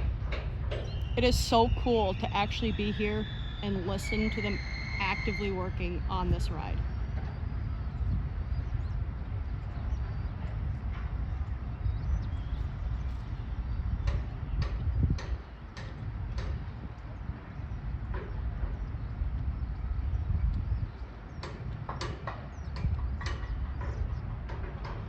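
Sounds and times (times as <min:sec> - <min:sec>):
low steady rumble: 0:00.0 - 0:25.0.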